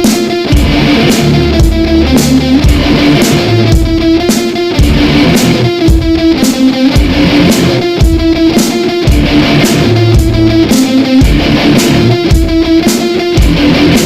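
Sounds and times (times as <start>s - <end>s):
bass guitar: 0.0s - 14.0s
drums keeping a steady beat: 0.0s - 14.0s
electric guitar: 0.0s - 14.0s.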